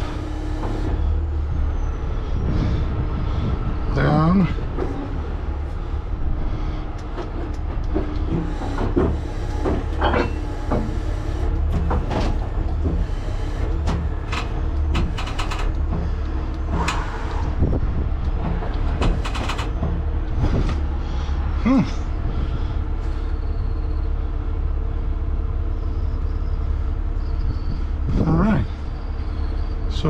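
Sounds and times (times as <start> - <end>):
towing gear clanking: 0.0 - 30.0
truck diesel engine running: 0.0 - 30.0.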